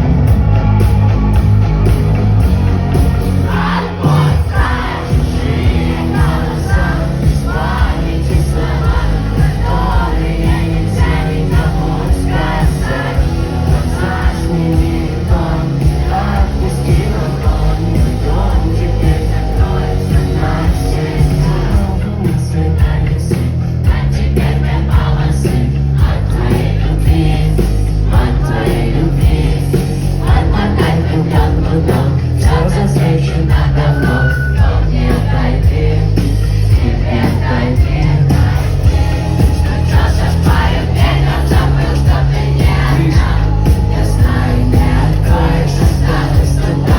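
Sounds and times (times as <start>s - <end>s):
crowd: 0.0s - 46.9s
rock band playing live: 0.0s - 46.9s
person singing: 3.5s - 23.6s, 26.4s - 46.9s.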